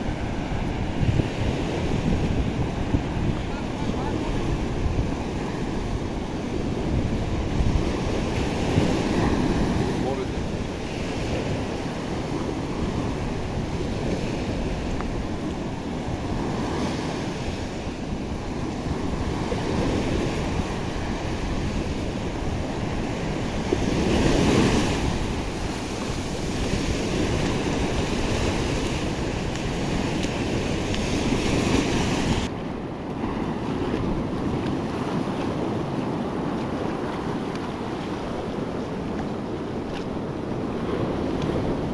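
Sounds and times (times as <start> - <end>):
surf breaking on beach: 0.0 - 41.9
wind on microphone: 0.0 - 41.9.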